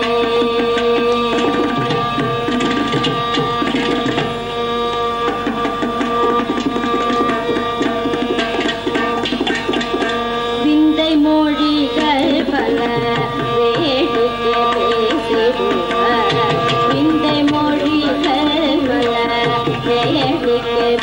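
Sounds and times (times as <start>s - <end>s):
violin holding pitches: 0.0s - 21.0s.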